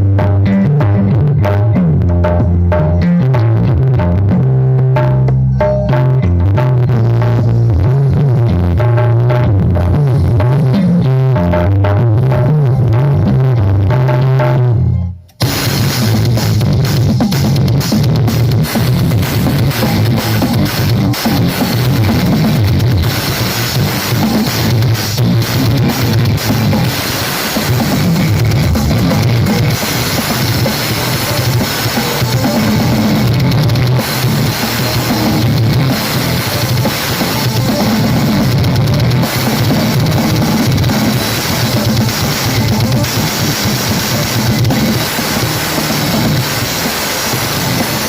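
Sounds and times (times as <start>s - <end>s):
drum kit and cymbals: 0.0s - 14.7s, 15.3s - 48.0s
loud music with heavy bass: 0.0s - 48.0s.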